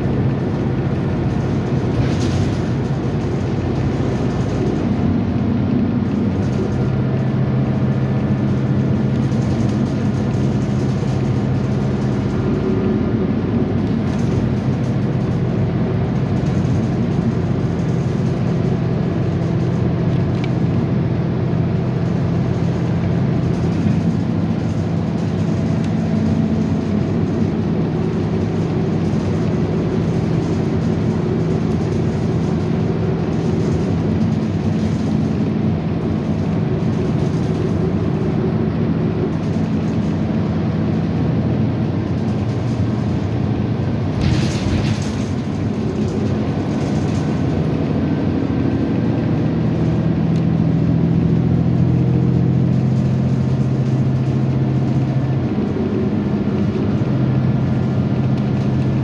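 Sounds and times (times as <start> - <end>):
train rumble and hum: 0.0 - 59.0.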